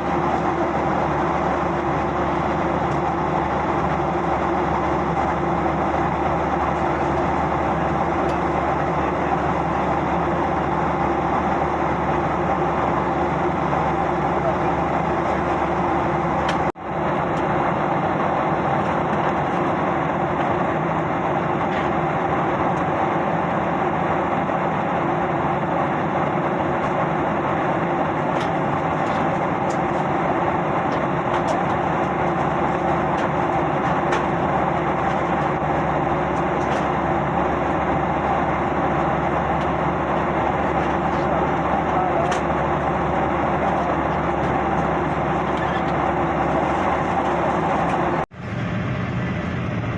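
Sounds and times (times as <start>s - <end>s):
airliner engines droning: 0.0s - 49.9s.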